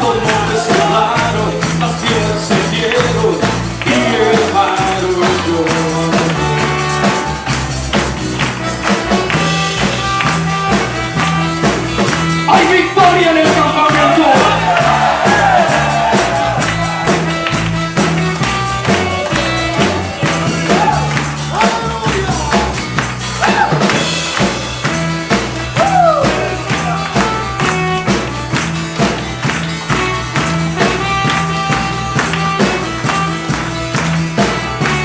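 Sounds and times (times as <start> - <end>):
church band music: 0.0 - 35.0
tambourine and drums beat: 0.0 - 35.0.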